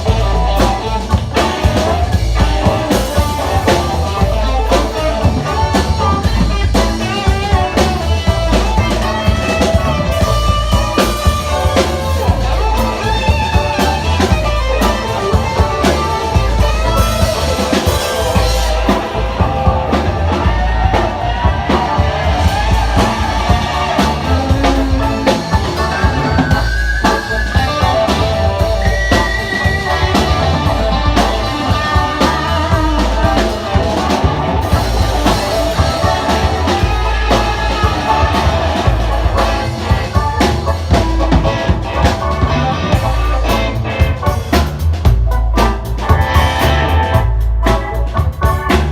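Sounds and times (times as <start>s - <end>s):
drum kit beating: 0.0s - 48.9s
electric guitar: 0.0s - 48.9s.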